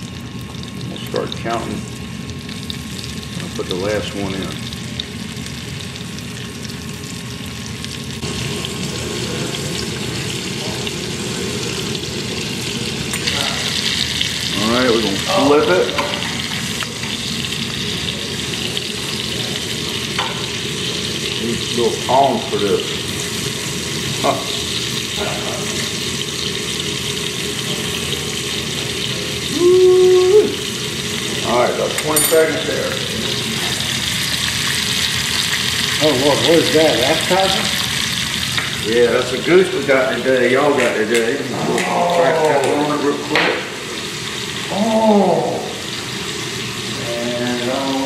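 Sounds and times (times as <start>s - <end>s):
meat sizzling in a frying pan: 0.0s - 48.0s.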